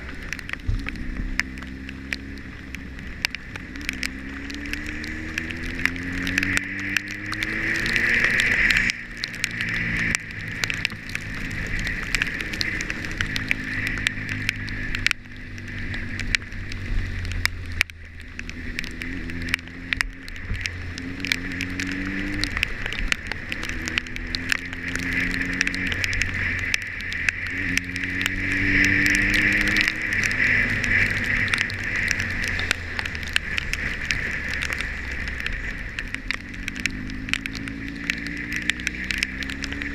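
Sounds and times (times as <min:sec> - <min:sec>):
motorcycle engine accelerating: 0:00.0 - 0:39.9
sharp ticks: 0:00.0 - 0:39.9.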